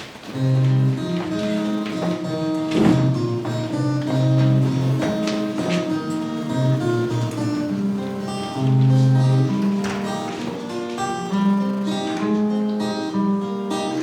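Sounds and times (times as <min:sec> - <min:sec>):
guitar playing chords: 0:00.0 - 0:14.0.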